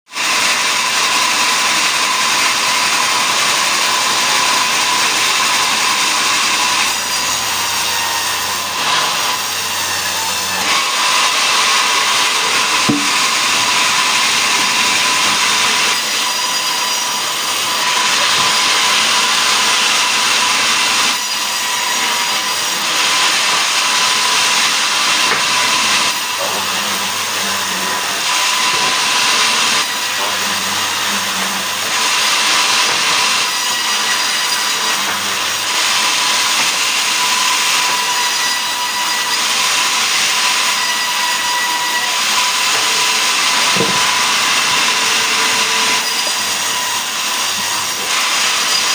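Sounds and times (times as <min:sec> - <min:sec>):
sawmill saw cutting log: 0:00.1 - 0:48.9.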